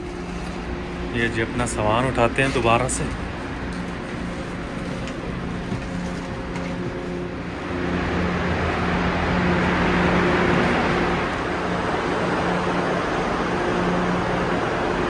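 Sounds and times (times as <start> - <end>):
broad rushing noise: 0.0 - 15.0
train low hum: 0.0 - 15.0.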